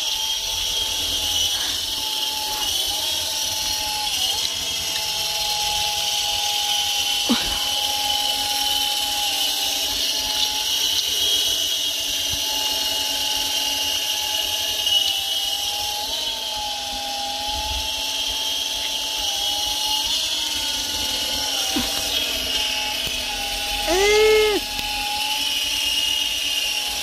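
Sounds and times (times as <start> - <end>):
rc helicopter motor whining: 0.0 - 27.0.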